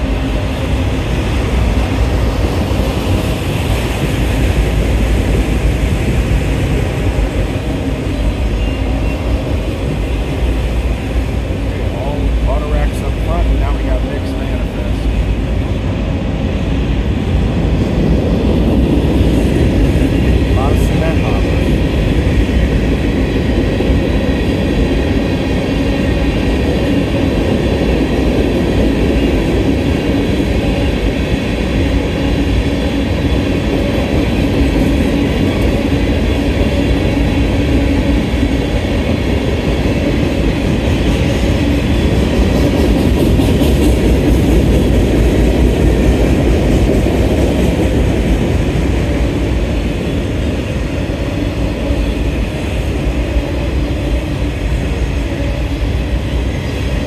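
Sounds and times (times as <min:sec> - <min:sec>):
freight train cars rolling on rails: 0:00.0 - 0:57.0.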